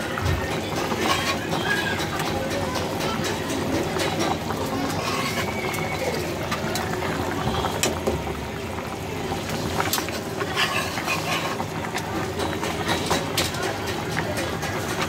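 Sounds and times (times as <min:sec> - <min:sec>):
broth boiling and bubbling: 0:00.0 - 0:15.0.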